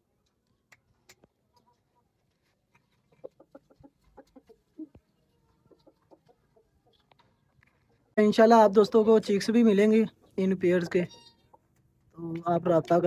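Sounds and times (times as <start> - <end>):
chickens clucking softly: 0.1 - 11.9.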